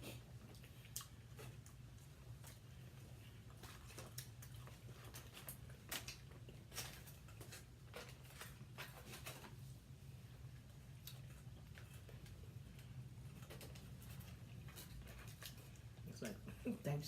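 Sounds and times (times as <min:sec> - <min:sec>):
people chewing and eating: 0:00.0 - 0:16.9
low steady hum: 0:00.0 - 0:17.0.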